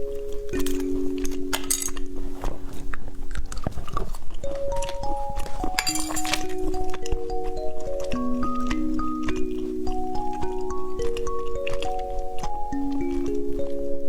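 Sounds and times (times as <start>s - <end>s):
chime-like background music: 0.0s - 14.0s
clicks and crinkles of handling: 0.0s - 14.0s.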